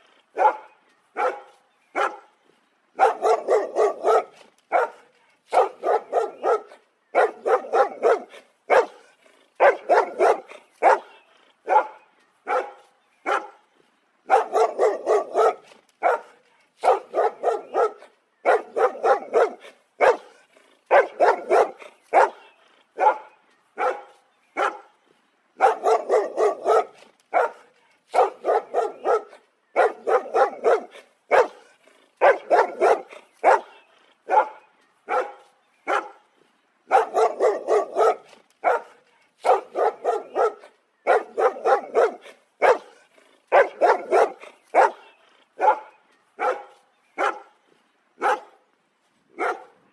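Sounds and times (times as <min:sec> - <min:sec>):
dog barking: 0:00.3 - 0:02.3, 0:03.0 - 0:13.6, 0:14.3 - 0:24.9, 0:25.6 - 0:36.2, 0:36.9 - 0:47.6, 0:48.2 - 0:48.6, 0:49.4 - 0:49.8.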